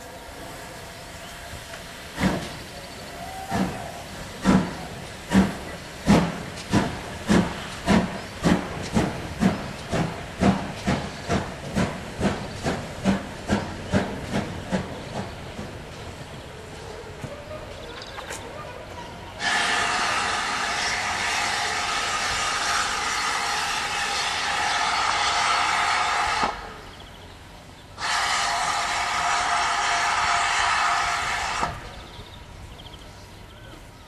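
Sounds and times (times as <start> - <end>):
steam locomotive exhaust chuffs: 0.0 - 16.3, 19.4 - 26.9, 27.9 - 32.3
steam hissing: 0.0 - 17.2, 19.4 - 27.0, 27.9 - 32.3.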